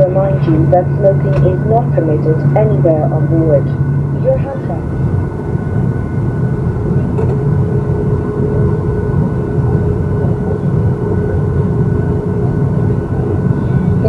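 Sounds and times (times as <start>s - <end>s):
airplane cabin rumble: 0.0s - 14.0s
steady cabin hum: 0.0s - 14.0s.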